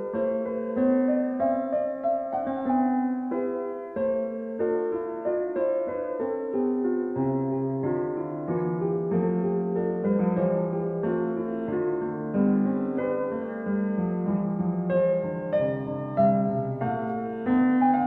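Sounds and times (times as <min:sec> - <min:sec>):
piano bass line: 0:00.0 - 0:18.0
slow piano melody: 0:00.0 - 0:18.0.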